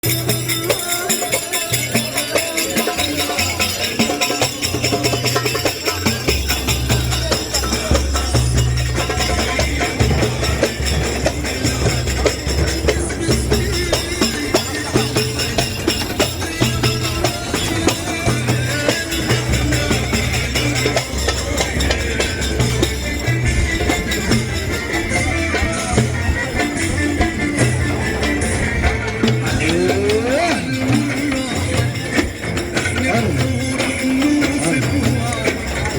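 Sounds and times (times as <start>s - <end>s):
tambourines shaken and struck: 0.0s - 35.9s
deep low drum: 4.6s - 35.9s.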